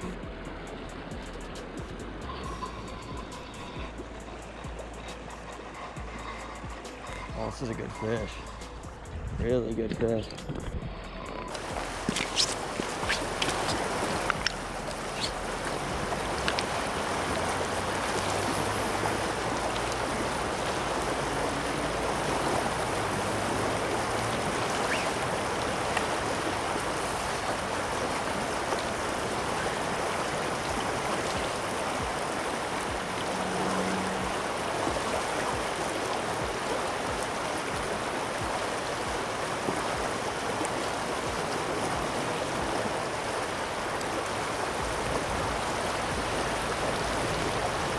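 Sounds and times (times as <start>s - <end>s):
river flowing over gravel: 0.0s - 47.9s.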